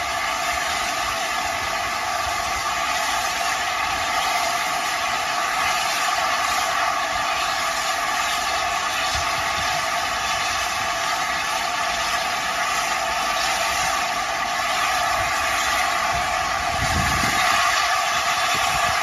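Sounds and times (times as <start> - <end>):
steam hissing from locomotive: 0.0 - 19.0.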